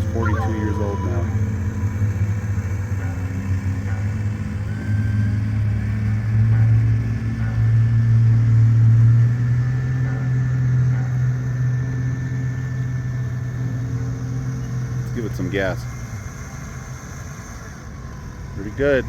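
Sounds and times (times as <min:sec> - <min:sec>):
electric motor drone: 0:00.0 - 0:19.0.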